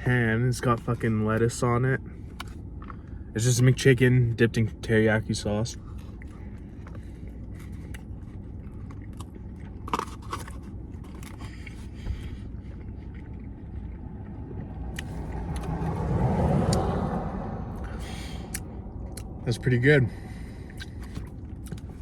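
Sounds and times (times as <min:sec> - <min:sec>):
steady low rumble: 0:00.0 - 0:22.0
biting and chewing sandwich: 0:00.6 - 0:03.9, 0:04.6 - 0:16.9, 0:17.7 - 0:22.0.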